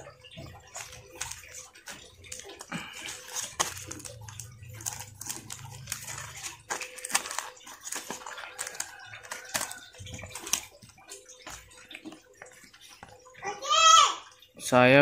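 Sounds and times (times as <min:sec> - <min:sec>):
seed sachet crinkling and rustling: 0:00.4 - 0:12.8.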